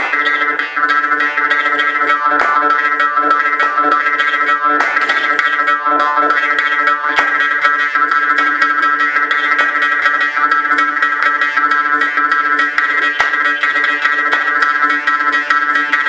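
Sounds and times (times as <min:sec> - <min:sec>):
jaw harp twanging: 0:00.0 - 0:16.0.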